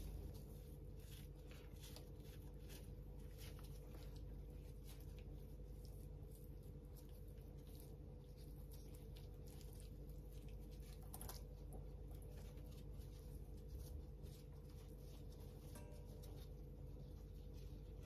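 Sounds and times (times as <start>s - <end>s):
paper towel crinkling: 0.0s - 18.0s.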